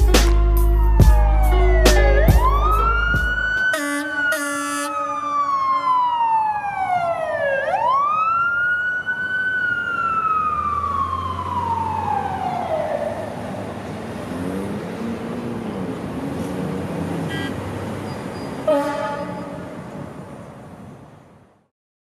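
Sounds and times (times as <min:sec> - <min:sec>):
emergency siren wailing: 0:00.0 - 0:20.4
city traffic: 0:00.0 - 0:21.7.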